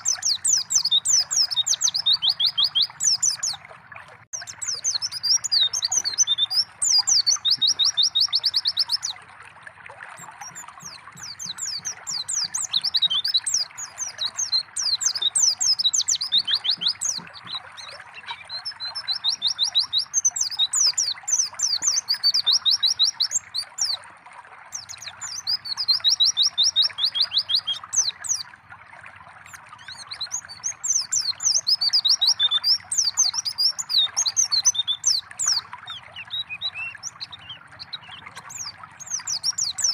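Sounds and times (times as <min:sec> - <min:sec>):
birds chirping and trilling: 0:00.0 - 0:03.7, 0:04.4 - 0:09.2, 0:10.1 - 0:24.0, 0:24.7 - 0:28.5, 0:29.4 - 0:39.9
trickling water: 0:00.0 - 0:39.9.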